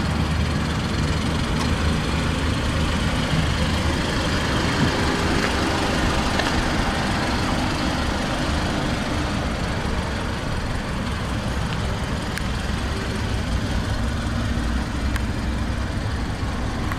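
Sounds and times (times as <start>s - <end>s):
car engine running: 0.0s - 16.9s
road noise: 0.0s - 16.9s.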